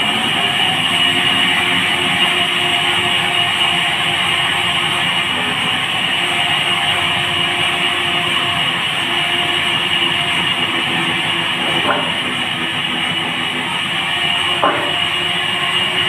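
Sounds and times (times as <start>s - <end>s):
band saw blade whining: 0.0s - 16.0s
motor hum: 0.0s - 16.0s.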